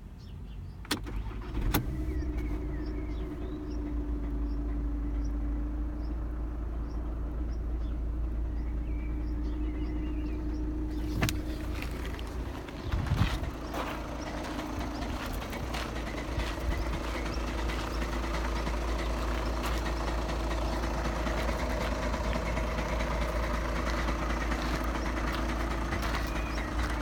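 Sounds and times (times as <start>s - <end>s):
diesel engine running: 0.9s - 27.0s.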